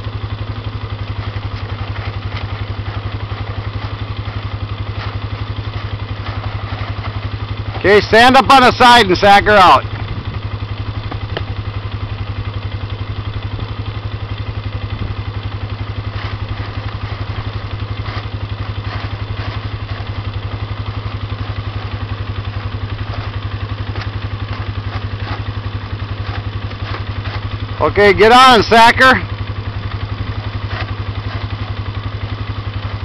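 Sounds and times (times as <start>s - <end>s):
atv engine idling: 0.0s - 33.0s.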